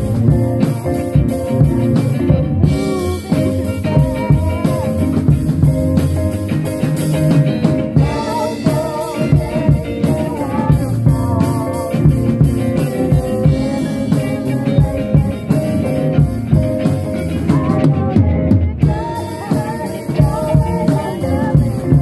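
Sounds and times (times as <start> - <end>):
person singing: 0.0 - 5.9, 7.9 - 22.0
drum kit: 0.0 - 22.0
guitar: 0.0 - 22.0.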